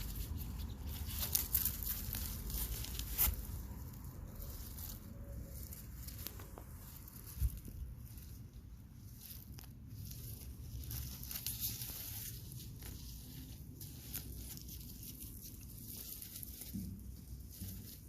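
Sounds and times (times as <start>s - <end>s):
rustling and scraping of soil: 0.0s - 18.0s.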